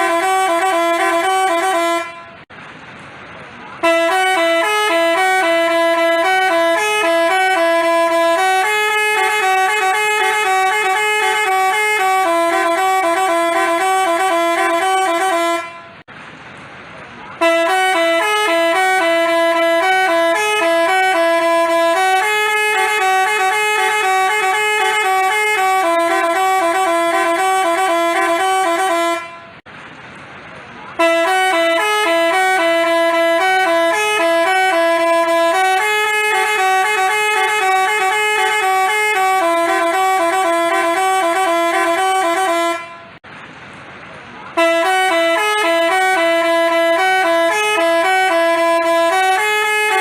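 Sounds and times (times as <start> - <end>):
bus horn playing a melody: 0.0 - 2.5, 3.7 - 16.1, 17.4 - 29.7, 30.9 - 43.2, 44.5 - 50.0.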